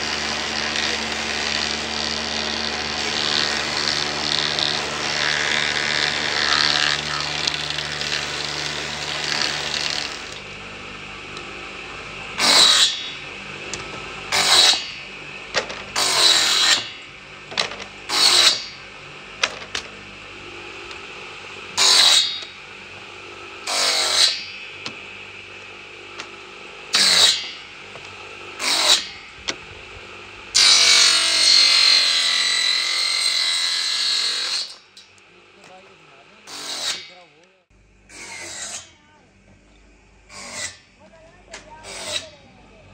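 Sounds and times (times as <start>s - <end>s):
saw cutting wood: 0.0s - 37.5s, 38.1s - 39.0s, 40.3s - 40.9s, 41.7s - 42.5s
circular saw running: 0.0s - 38.9s, 40.3s - 42.9s
thickness planer running: 0.0s - 42.9s.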